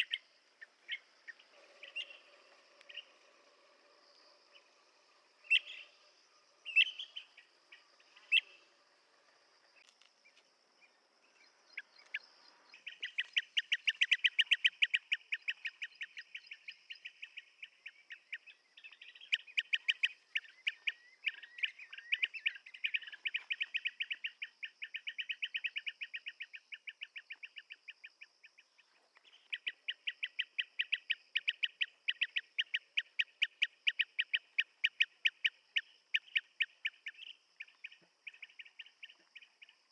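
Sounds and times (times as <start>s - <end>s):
bird calling: 0.0s - 10.4s, 11.3s - 39.9s.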